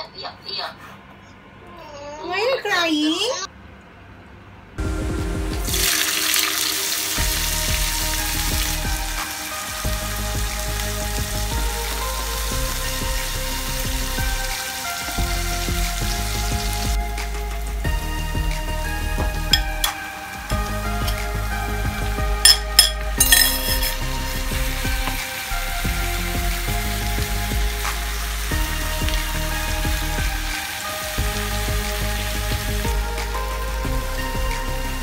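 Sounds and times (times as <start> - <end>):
background music: 4.8 - 35.0
vegetables sizzling in hot oil: 5.7 - 35.0.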